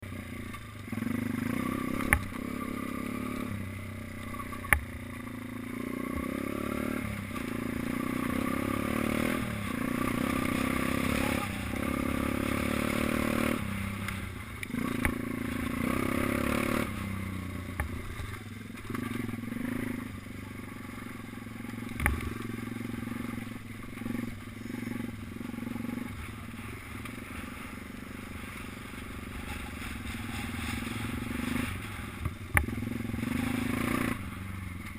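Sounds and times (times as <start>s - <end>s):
minibike engine revving: 0.0s - 34.9s.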